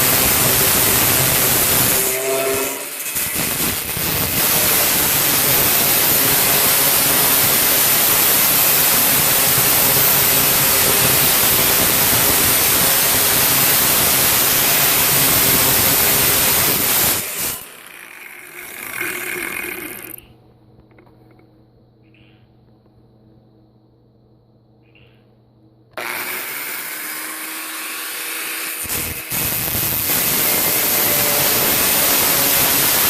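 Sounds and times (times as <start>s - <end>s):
power saw cutting metal gutter: 0.0s - 20.2s, 26.0s - 33.0s.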